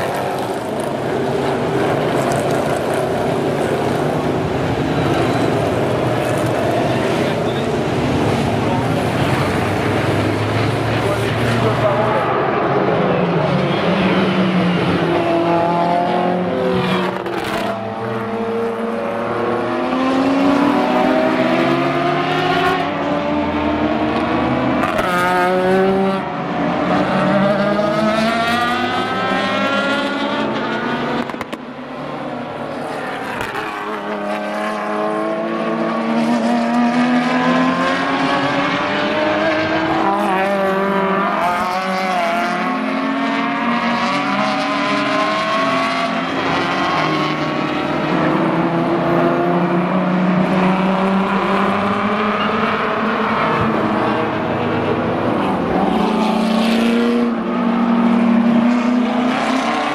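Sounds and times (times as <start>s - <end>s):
racing car engines passing: 0.0s - 59.9s.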